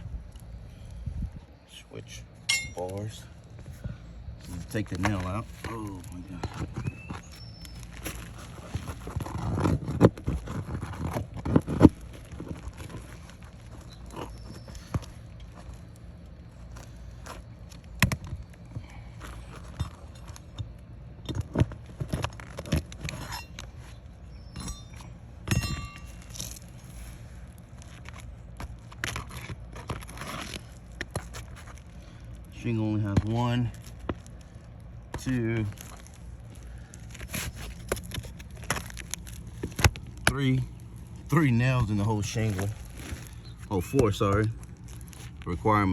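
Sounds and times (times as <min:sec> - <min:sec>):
pry bar scraping on shingles: 0:03.8 - 0:45.9.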